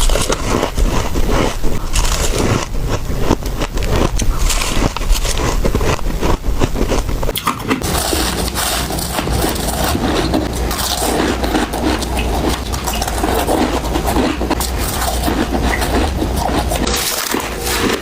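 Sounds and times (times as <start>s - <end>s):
frost ice crunching: 0.0s - 18.0s.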